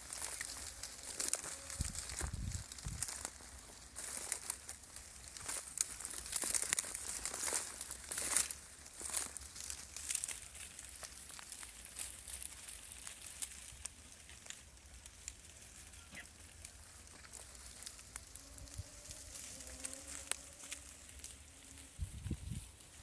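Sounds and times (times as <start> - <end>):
crackling and rustling: 0.0 - 23.0.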